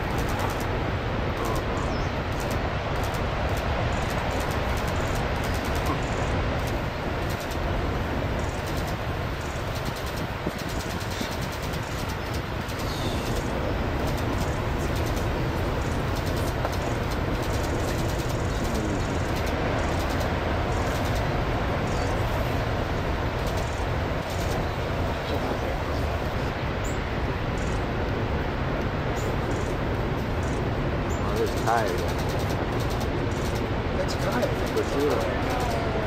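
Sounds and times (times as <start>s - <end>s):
ocean surf: 0.0s - 36.0s
wind roaring: 0.0s - 36.0s.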